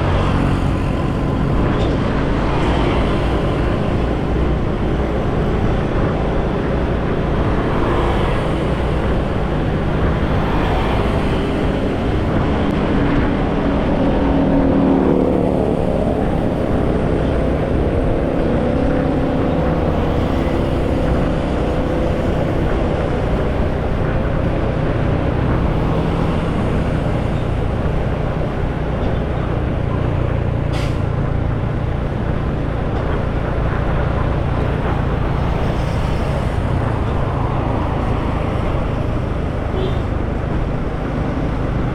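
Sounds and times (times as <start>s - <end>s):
traffic noise: 0.0s - 41.9s
wind: 0.0s - 41.9s.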